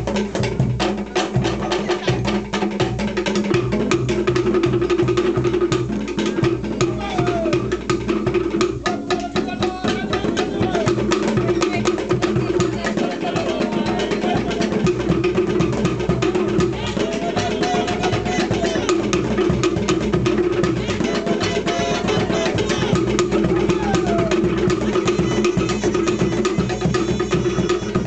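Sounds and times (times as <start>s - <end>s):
slit drums playing fast rhythm: 0.0s - 28.0s.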